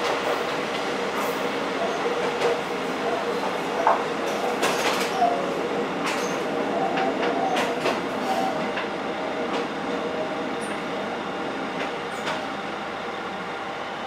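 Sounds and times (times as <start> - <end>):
railcar running noise: 0.0 - 14.0.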